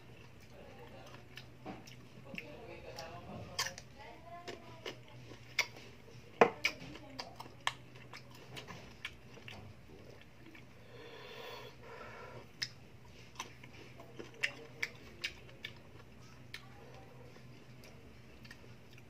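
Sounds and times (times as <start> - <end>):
mango crunching and chewing: 0.0 - 10.8, 12.5 - 19.0.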